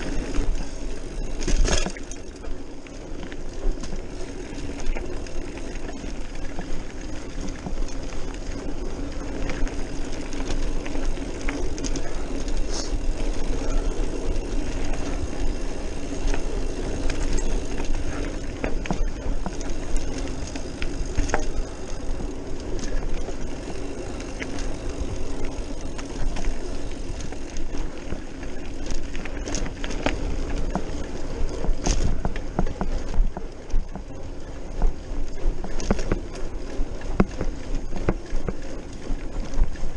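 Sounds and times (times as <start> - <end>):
bike rattling over bumps: 0.0 - 39.9
tyres rumbling on gravel: 0.0 - 39.9.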